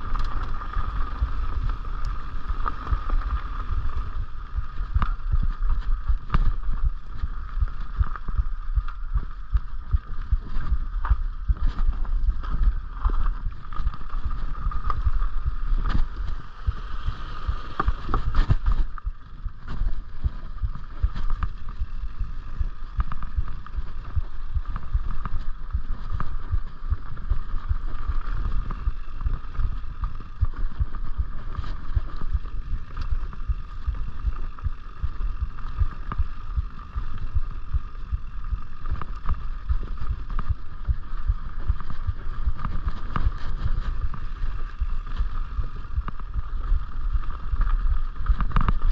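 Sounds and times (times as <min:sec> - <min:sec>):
bike rattling over bumps: 0:00.0 - 0:48.9
bike tyres rumbling on dirt: 0:00.0 - 0:48.9
wind on microphone: 0:00.0 - 0:48.9.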